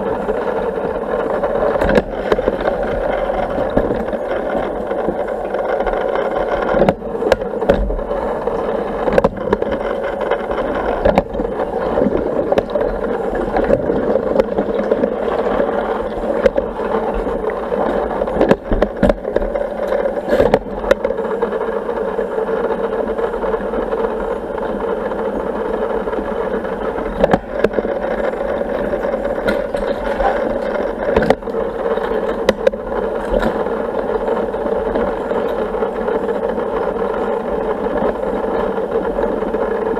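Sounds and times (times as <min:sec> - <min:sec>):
pool vacuum pump humming: 0:00.0 - 0:39.9.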